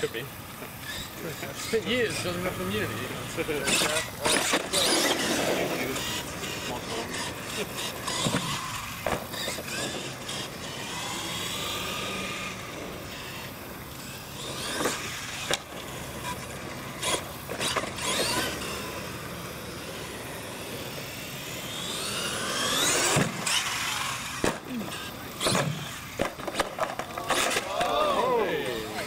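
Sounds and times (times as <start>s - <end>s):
toy truck motor whining: 0.0s - 29.0s.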